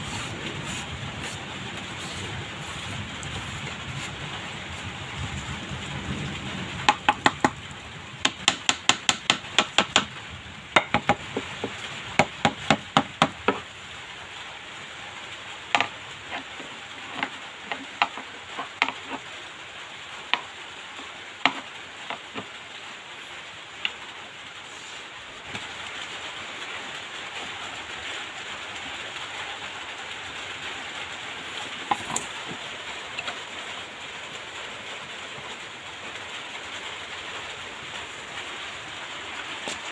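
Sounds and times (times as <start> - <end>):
steady hiss: 0.0 - 5.4, 9.8 - 39.9.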